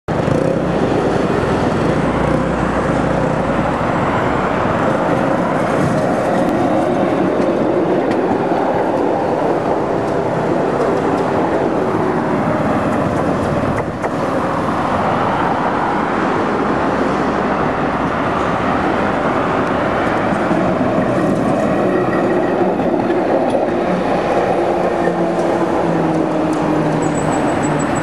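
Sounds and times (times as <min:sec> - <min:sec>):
road traffic: 0:00.1 - 0:28.0
tram rumbling on track: 0:00.1 - 0:28.0.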